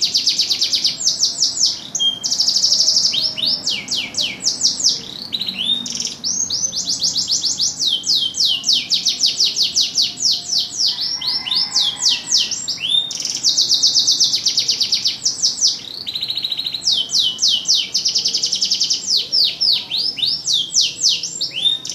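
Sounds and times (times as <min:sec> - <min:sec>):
canary singing: 0:00.0 - 0:21.9.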